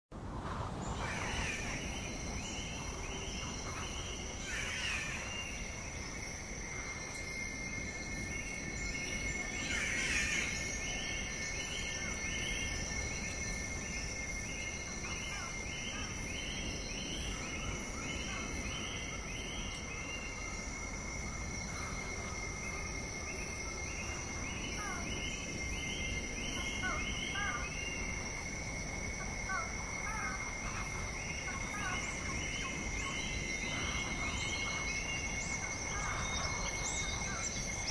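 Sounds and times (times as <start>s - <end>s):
insects trilling: 0.4s - 37.9s.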